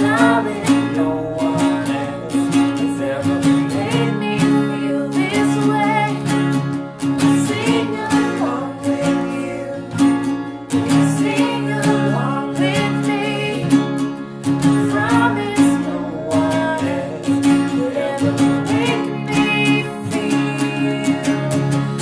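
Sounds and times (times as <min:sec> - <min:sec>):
acoustic guitars strumming: 0:00.0 - 0:22.0
voices singing together: 0:00.0 - 0:22.0.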